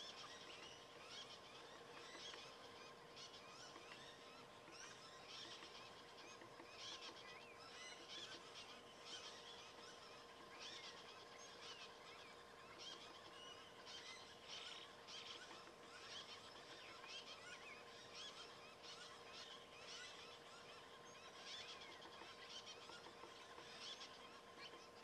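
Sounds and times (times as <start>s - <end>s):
faint steady hum: 0.0s - 25.0s
small birds chirping: 0.0s - 25.0s.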